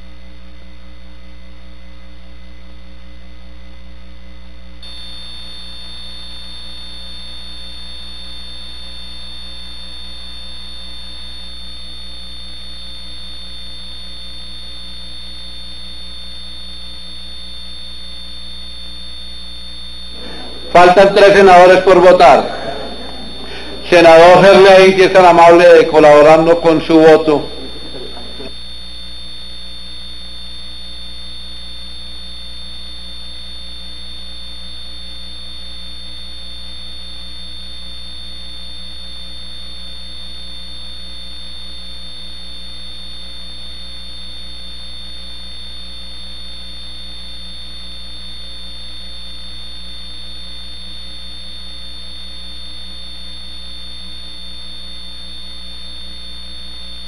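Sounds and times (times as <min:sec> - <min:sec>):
electrical mains hum: 0:00.0 - 0:57.0
thin high-pitched whine: 0:00.0 - 0:57.0.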